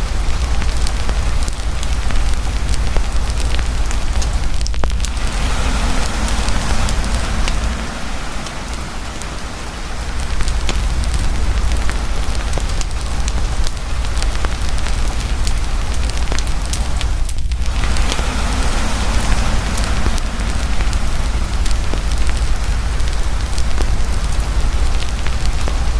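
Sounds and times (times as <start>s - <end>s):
campfire crackling and popping: 0.0s - 25.9s
heavy rain hissing: 0.0s - 25.9s.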